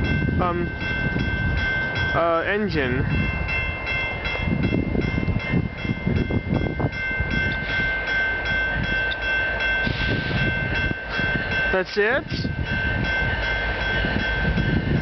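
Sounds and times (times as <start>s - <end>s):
distant freight train rumble: 0.0s - 15.0s
level-crossing warning bell ringing: 0.0s - 15.0s.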